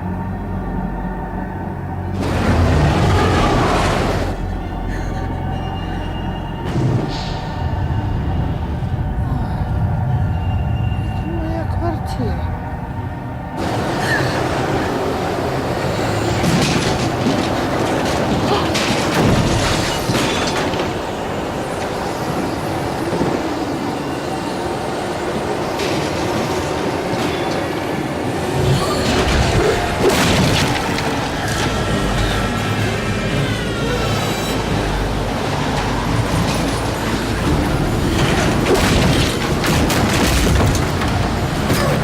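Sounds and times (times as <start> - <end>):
loud dense rumbling: 0.0 - 23.3, 28.0 - 42.0.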